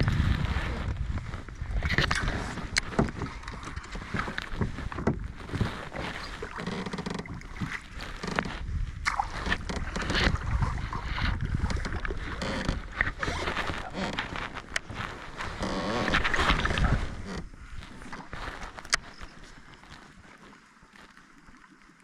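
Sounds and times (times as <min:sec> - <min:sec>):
water slapping against hull: 0:00.0 - 0:20.5.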